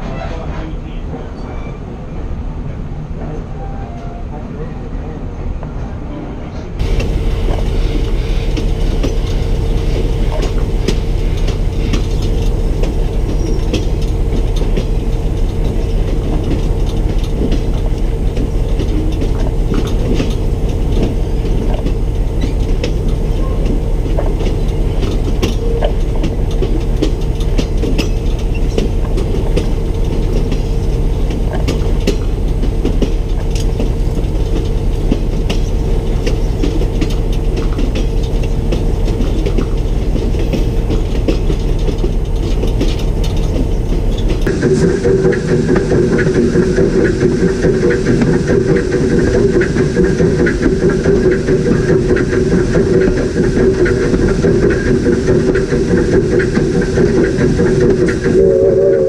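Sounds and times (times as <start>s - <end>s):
train rumbling along track: 0.0s - 59.0s
wheels clicking over rails: 6.8s - 59.0s.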